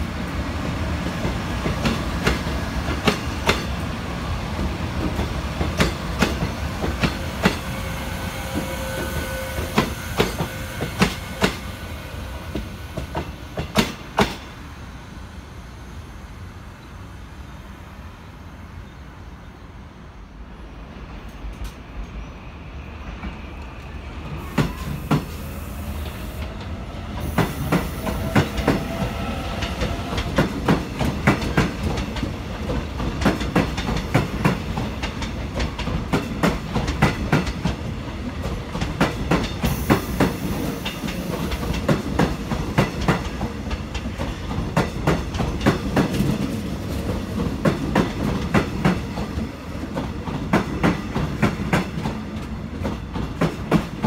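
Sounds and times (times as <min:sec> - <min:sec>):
train rumbling on board: 0:00.0 - 0:15.1, 0:20.4 - 0:54.0.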